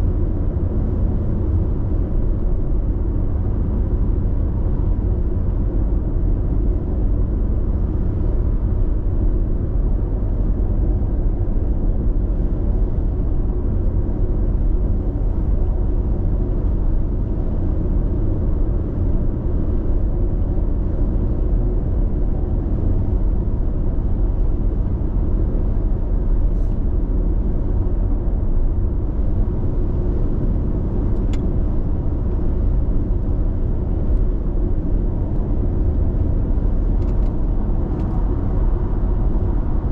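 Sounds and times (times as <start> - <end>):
tyre and engine rumble in car: 0.0 - 39.9.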